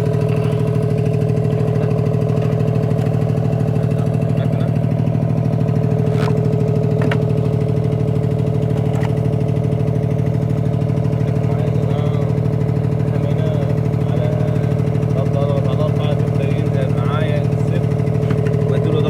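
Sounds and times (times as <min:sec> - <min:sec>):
motor running with pulsing hum: 0:00.0 - 0:19.0.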